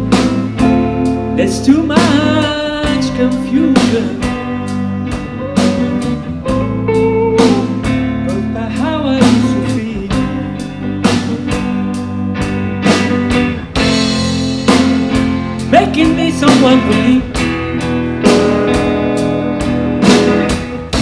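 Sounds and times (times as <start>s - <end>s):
lead guitar bending notes: 0.0s - 21.0s
live blues band playing: 0.0s - 21.0s.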